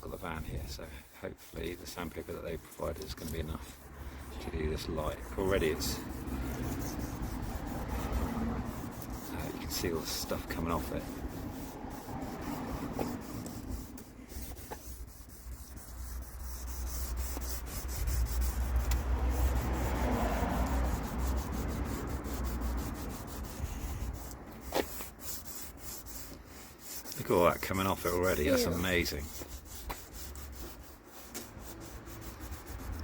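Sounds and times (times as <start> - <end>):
sandpaper rubbing plastic: 0.0 - 33.0.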